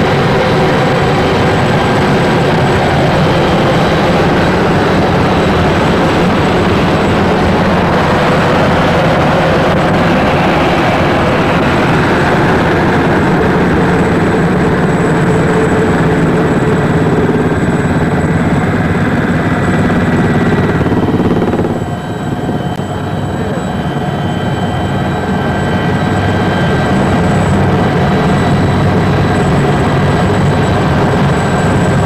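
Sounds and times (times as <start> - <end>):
helicopter engine and rotor noise: 0.0 - 32.0.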